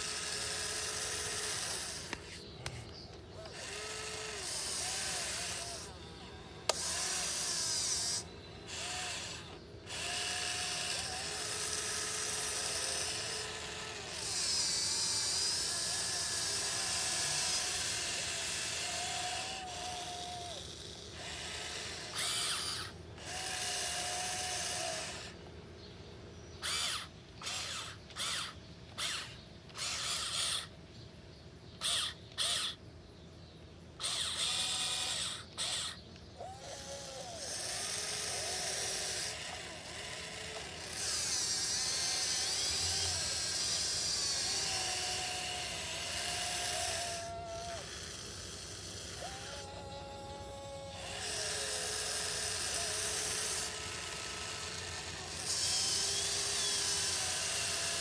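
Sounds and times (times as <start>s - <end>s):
small electric motors whining: 0.0s - 25.8s, 26.6s - 30.8s, 31.8s - 32.8s, 34.0s - 58.0s.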